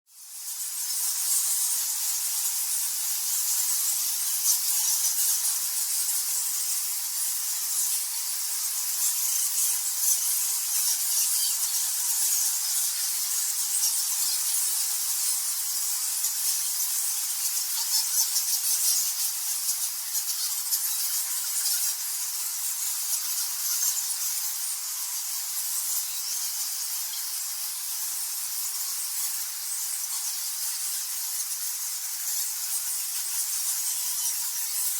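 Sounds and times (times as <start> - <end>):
bats squeaking and chittering: 0.3 - 34.9.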